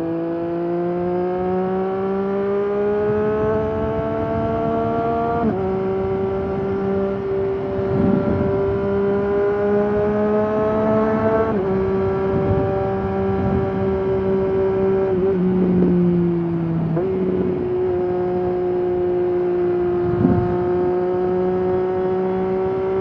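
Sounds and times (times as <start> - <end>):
motorcycle engine accelerating: 0.0 - 23.0
wind rumbling on microphone: 1.3 - 23.0.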